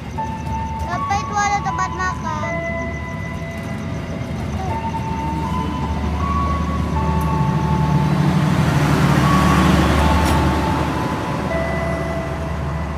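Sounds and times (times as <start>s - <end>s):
high wheel squealing: 0.0s - 12.9s
train carriages rumbling on rails: 0.0s - 12.9s.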